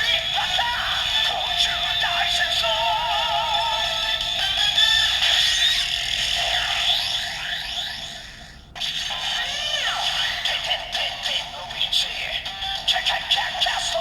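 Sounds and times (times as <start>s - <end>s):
toy electronic music and effects: 0.0s - 11.6s.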